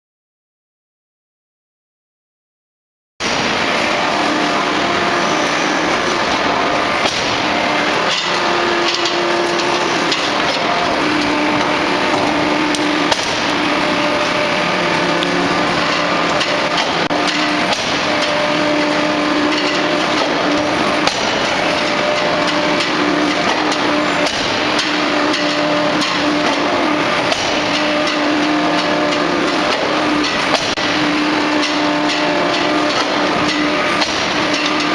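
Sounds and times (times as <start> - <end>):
hydraulic press industrial noise: 3.2 - 34.9
sharp metallic knocks: 6.2 - 34.9.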